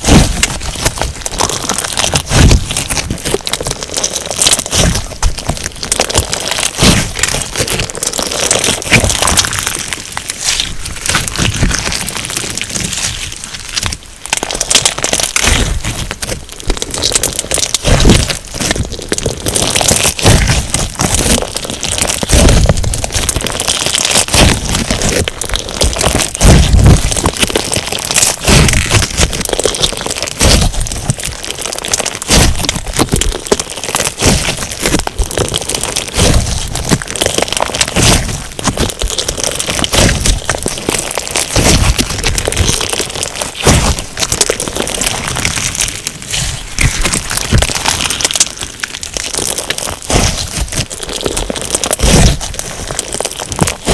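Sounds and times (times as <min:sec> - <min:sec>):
crunchy slime crackling: 0:00.0 - 0:53.9
slime squish: 0:00.0 - 0:53.9.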